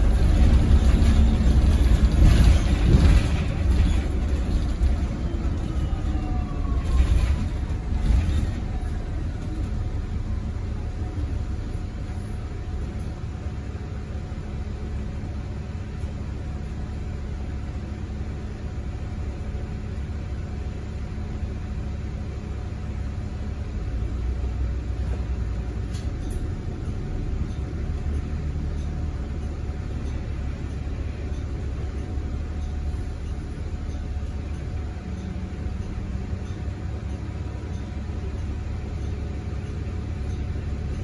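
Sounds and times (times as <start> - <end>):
bus cabin low rumble: 0.0 - 41.0.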